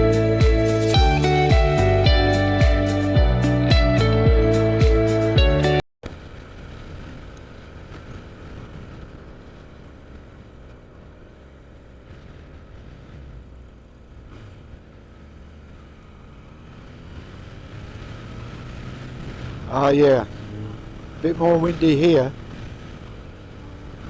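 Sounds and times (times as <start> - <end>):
road and engine rumble: 0.0 - 24.0.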